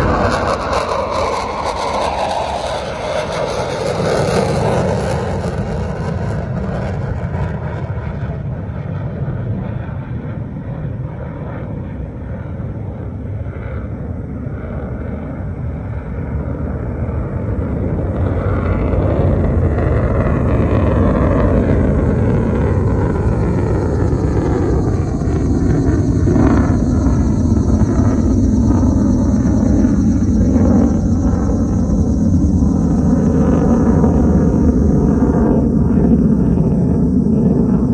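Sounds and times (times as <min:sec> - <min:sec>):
jet engine roar: 0:00.0 - 0:37.9.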